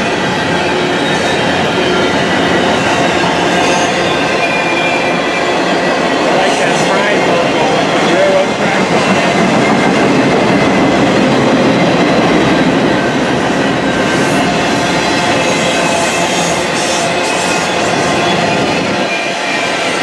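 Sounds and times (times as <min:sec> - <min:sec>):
freight train wheels on rail: 0:00.0 - 0:20.0.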